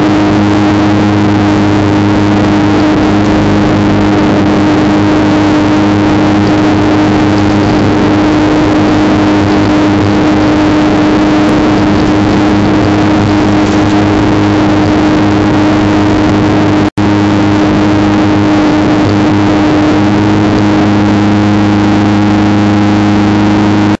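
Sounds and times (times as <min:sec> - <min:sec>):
mower engine running: 0:00.0 - 0:24.0.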